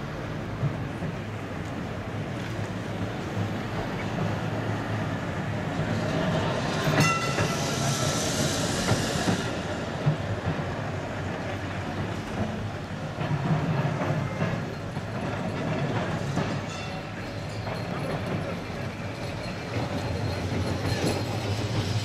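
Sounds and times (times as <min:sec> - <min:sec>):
tram rumbling and rattling: 0:00.0 - 0:22.0.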